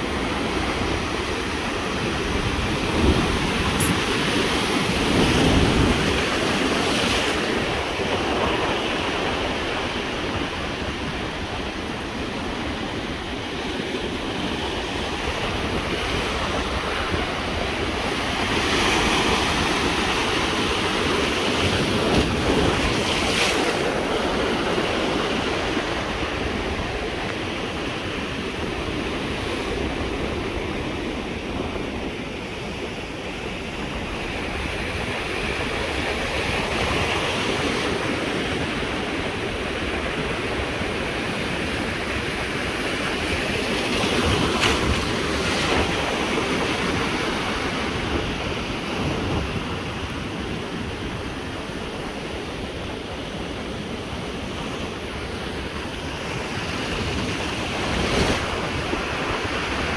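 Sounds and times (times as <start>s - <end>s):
ocean surf breaking: 0.0s - 59.9s
wind buffeting microphone: 0.0s - 59.9s.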